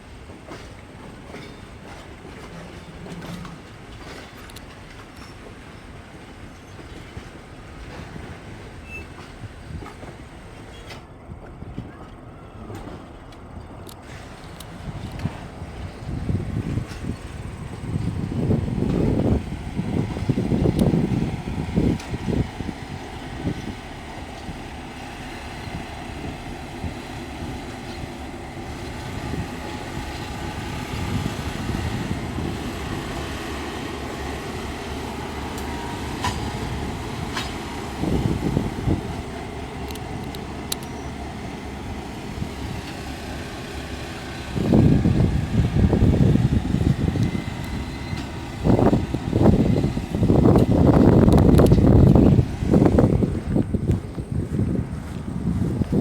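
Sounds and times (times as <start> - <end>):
train rumbling: 0.0 - 56.0
wind buffeting the microphone: 0.1 - 56.0.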